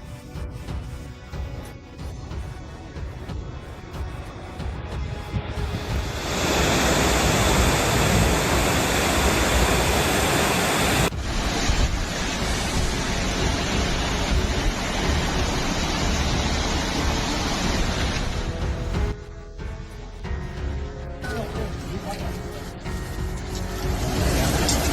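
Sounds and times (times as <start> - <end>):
loud steady rushing noise: 0.0 - 19.2, 22.9 - 24.9.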